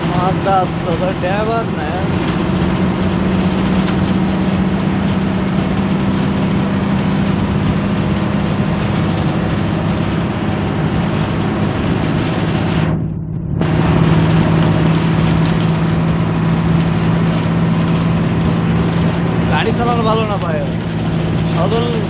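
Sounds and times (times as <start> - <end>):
bus engine running: 0.0 - 22.0
road noise: 0.0 - 22.0.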